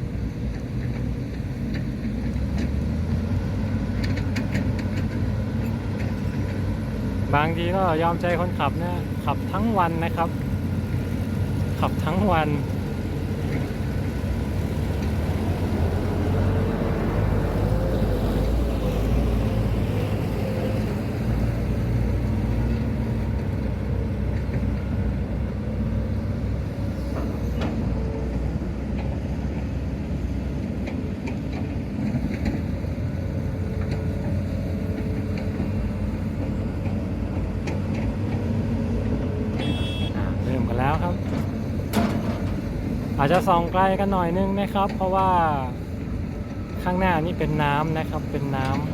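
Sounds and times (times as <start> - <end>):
heavy diesel engines droning: 0.0 - 48.9.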